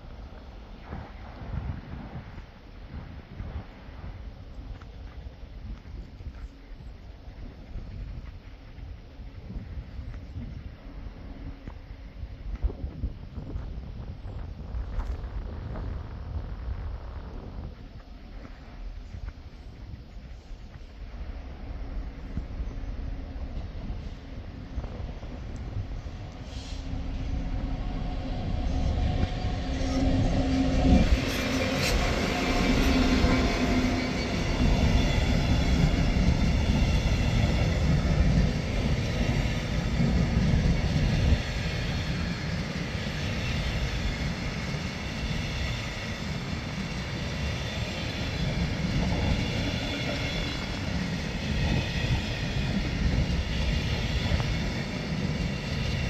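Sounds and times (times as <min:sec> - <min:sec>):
diesel locomotive engine: 0:00.0 - 0:56.0
train wagons rumbling over rails: 0:00.0 - 0:56.0.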